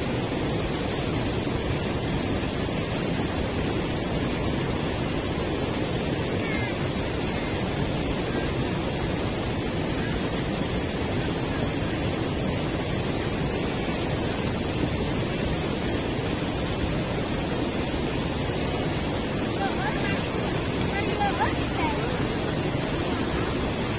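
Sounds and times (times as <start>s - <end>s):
river water rushing over weir: 0.0s - 23.9s.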